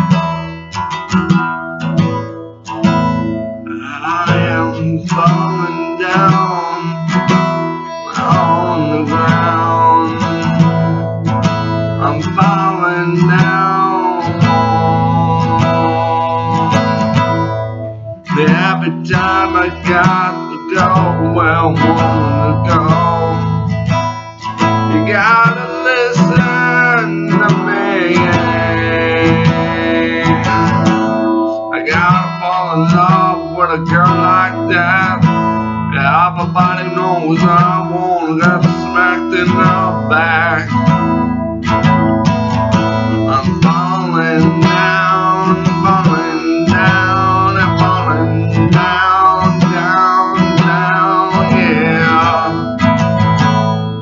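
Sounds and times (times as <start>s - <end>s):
strummed acoustic guitar: 0.0s - 54.0s
man singing: 3.6s - 54.0s.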